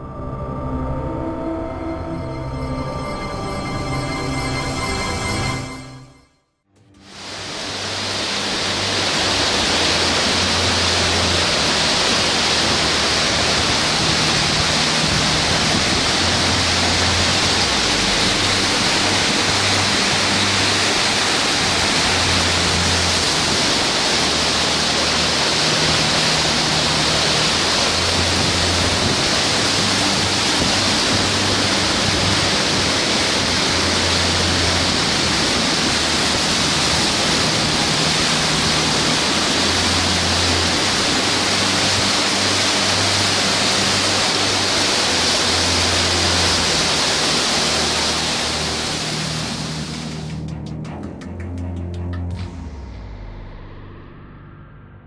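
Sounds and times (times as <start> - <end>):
floodwater rushing: 7.0 - 52.9.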